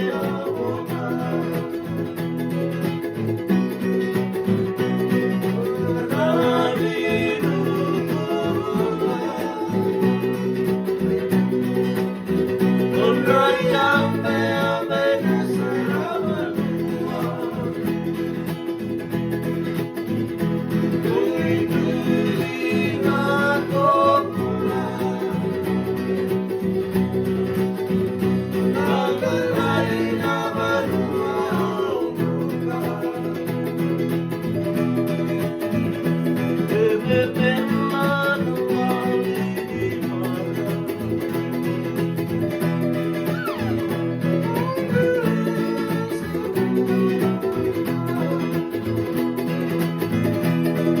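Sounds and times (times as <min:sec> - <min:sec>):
person singing: 0:00.0 - 0:02.8, 0:04.7 - 0:11.9, 0:12.7 - 0:19.0, 0:20.7 - 0:35.4, 0:36.4 - 0:51.0
strummed guitar and ukulele: 0:00.0 - 0:51.0.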